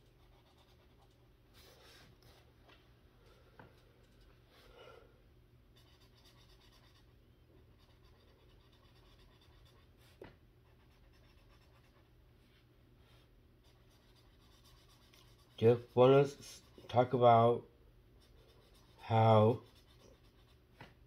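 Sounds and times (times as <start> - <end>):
marker scratching on paper: 0.0 - 2.4, 5.7 - 17.4, 18.2 - 21.0.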